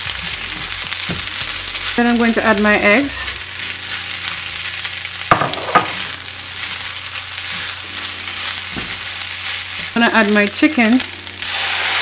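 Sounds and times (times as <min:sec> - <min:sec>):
rice sizzling in hot oil: 0:00.0 - 0:12.0.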